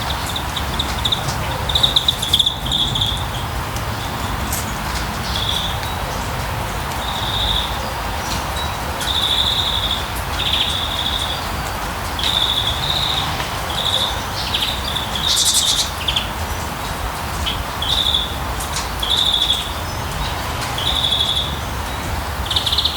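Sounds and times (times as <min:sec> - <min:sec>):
steady rushing noise: 0:00.0 - 0:22.9.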